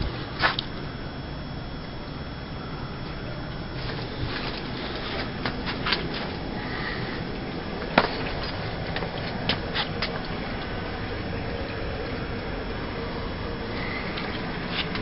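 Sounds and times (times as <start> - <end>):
air handler airflow: 0.0 - 15.0.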